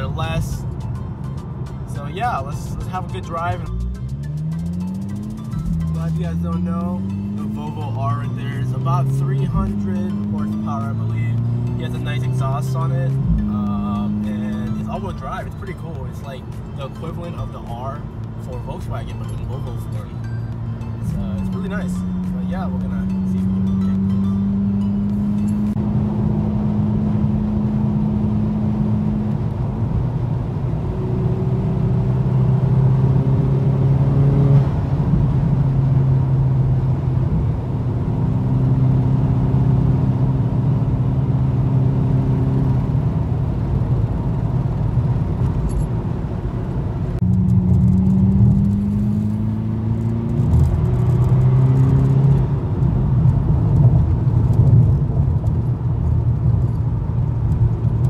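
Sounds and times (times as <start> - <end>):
car engine and exhaust droning: 0.0 - 58.0
road noise: 0.0 - 58.0.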